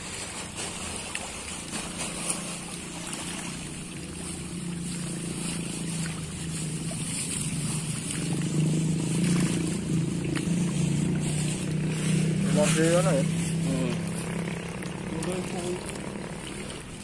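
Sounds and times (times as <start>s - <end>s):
fish splashing in water: 0.0s - 17.0s
small engine humming: 0.1s - 17.0s.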